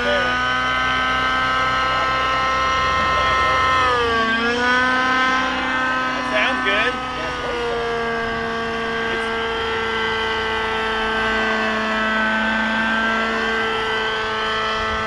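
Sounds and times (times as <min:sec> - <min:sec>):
model helicopter engine and rotor: 0:00.0 - 0:15.0.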